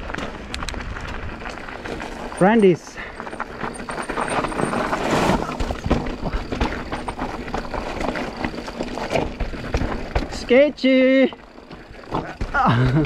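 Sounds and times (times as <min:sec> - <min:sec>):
bike knocks and rattles: 0:00.0 - 0:13.0
bike tyre noise on dirt: 0:00.0 - 0:13.0.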